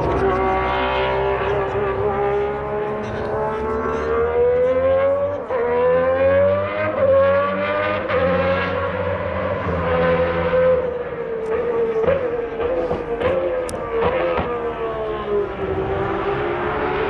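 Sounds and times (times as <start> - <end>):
racing car accelerating hard: 0.0 - 17.0.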